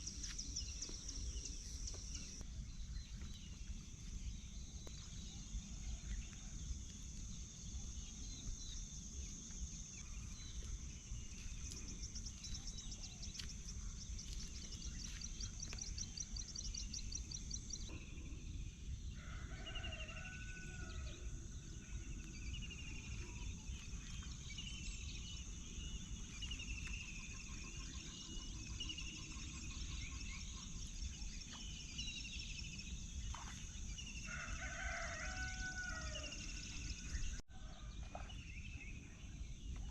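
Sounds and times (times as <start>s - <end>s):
high insect drone: 0.0s - 37.4s.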